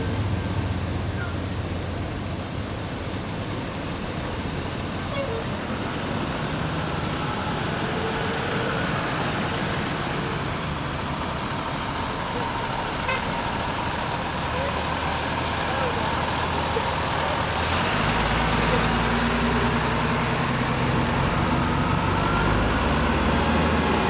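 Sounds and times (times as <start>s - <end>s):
diesel fire engine engine: 0.0s - 24.0s
pickup truck engine passing: 0.0s - 24.0s
road noise: 0.0s - 24.0s.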